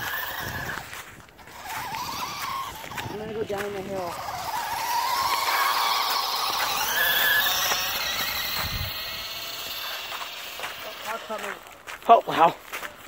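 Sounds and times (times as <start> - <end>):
toy car motor whining: 0.0 - 12.6.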